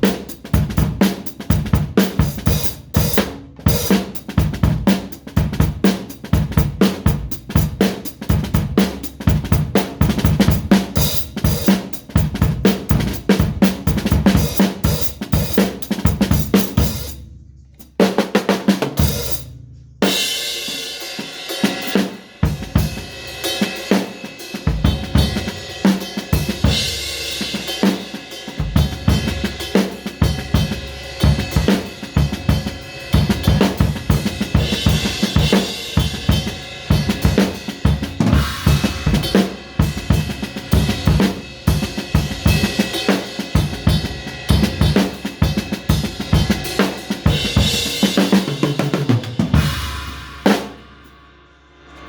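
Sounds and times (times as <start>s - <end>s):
drum kit fast beat: 0.0s - 51.2s.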